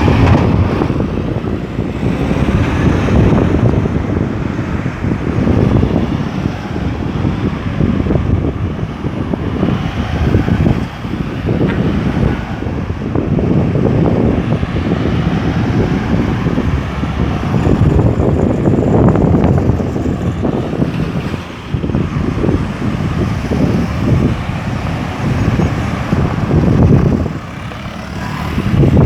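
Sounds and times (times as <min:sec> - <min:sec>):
road traffic rumble: 0:00.0 - 0:29.0
wind buffeting microphone: 0:00.0 - 0:29.0.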